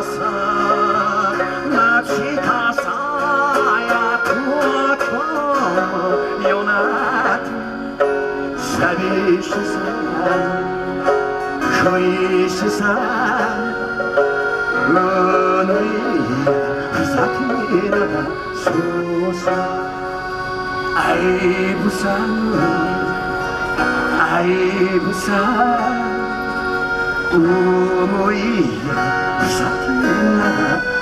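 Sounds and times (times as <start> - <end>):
piano accordion: 0.0 - 31.0
plucked string instrument: 0.0 - 31.0
strummed acoustic guitar: 0.0 - 31.0.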